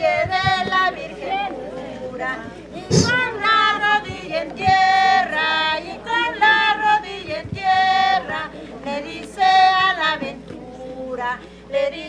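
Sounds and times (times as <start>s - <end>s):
women singing: 0.0s - 12.0s.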